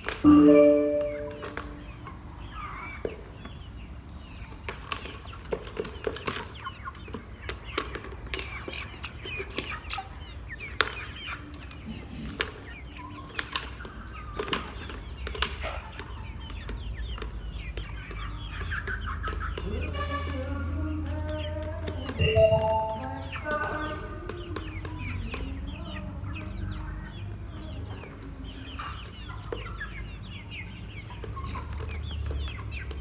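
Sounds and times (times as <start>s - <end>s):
chickens clucking and peeping: 0.0s - 33.0s.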